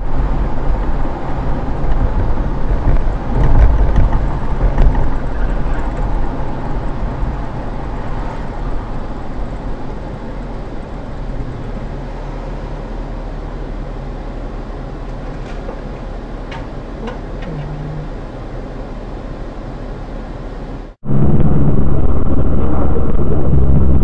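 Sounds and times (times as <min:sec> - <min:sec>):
car driving road and engine noise: 0:00.0 - 0:24.0.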